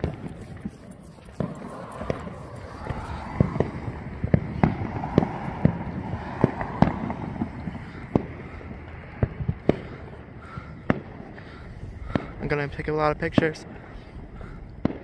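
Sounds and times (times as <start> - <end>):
fireworks exploding: 0.0 - 14.2, 14.8 - 15.0.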